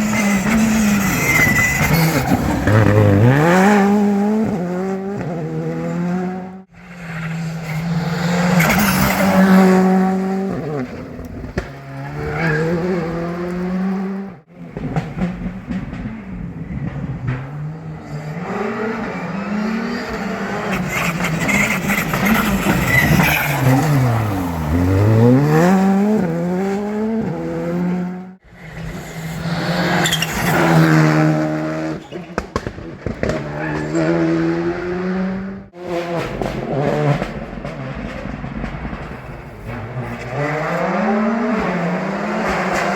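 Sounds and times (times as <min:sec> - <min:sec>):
rally car engines at high revs: 0:00.0 - 0:42.9.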